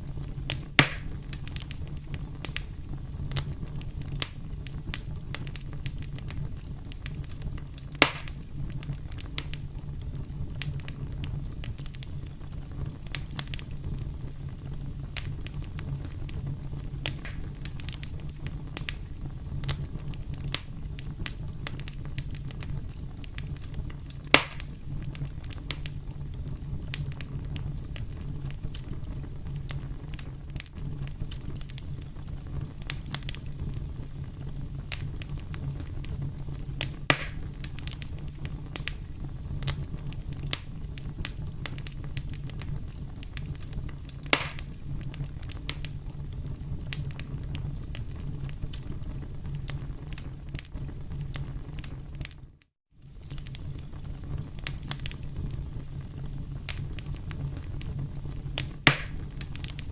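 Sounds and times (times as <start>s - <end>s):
campfire crackling: 0.0s - 52.4s, 53.0s - 59.9s
loud fire pops: 0.0s - 59.9s
low rumble of flames: 0.0s - 59.9s.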